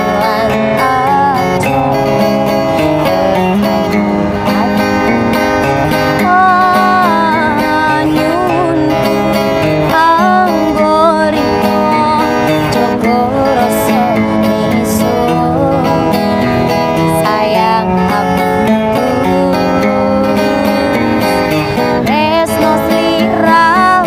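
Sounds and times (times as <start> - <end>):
acoustic guitar strummed and plucked: 0.0 - 24.0
person singing ornamented melody: 0.0 - 24.0.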